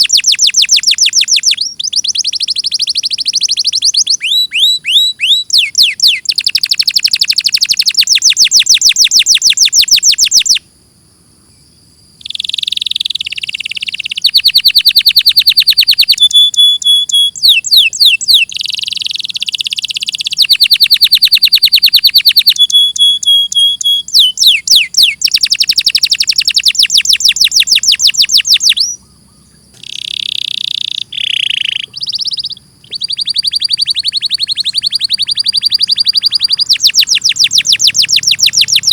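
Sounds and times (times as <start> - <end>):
canary singing trills: 0.0 - 10.7, 11.5 - 38.9.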